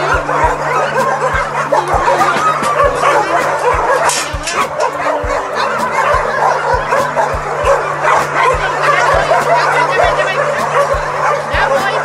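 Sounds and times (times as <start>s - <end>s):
background music with steady beat: 0.0s - 12.0s
dogs barking and yipping: 0.0s - 12.0s.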